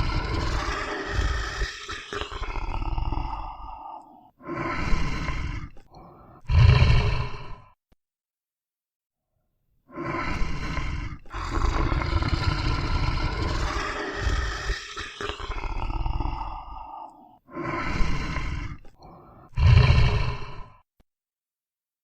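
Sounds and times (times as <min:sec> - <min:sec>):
big cat roaring and growling: 0:00.0 - 0:07.7, 0:09.9 - 0:20.8.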